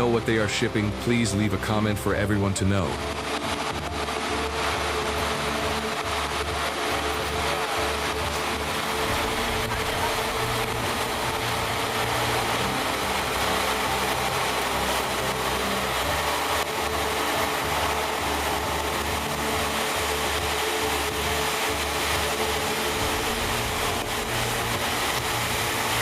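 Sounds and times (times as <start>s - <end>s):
vehicle engine humming: 0.8s - 26.0s.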